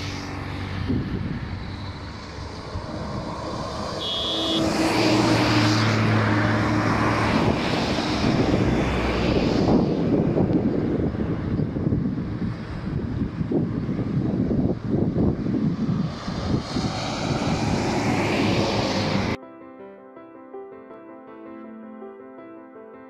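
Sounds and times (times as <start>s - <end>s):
engine drone: 0.0s - 19.4s
wind rushing on microphone: 0.0s - 19.4s.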